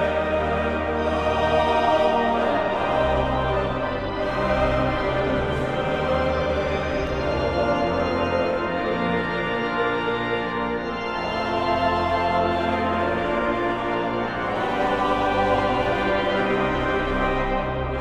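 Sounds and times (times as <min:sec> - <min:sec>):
organ playing a hymn: 0:00.0 - 0:18.0.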